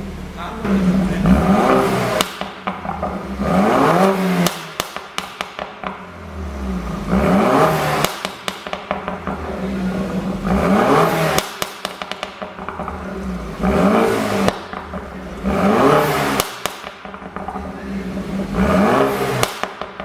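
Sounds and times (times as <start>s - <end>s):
car engine revving: 0.0s - 20.0s
exhaust pops and crackles: 0.0s - 20.0s.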